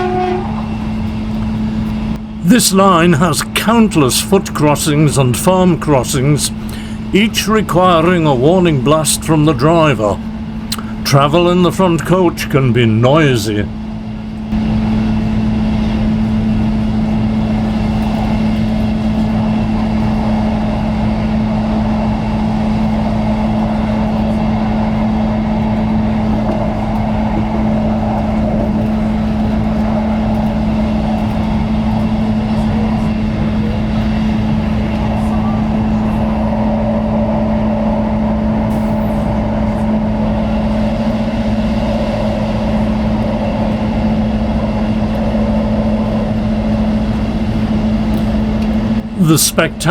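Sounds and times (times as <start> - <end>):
train engine drone: 0.0 - 49.9
wheels rumbling on track: 0.0 - 49.9.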